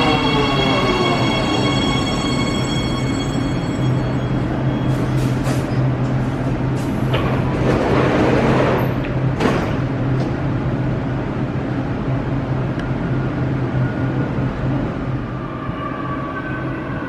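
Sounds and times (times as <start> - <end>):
metro train low hum: 0.0 - 17.0.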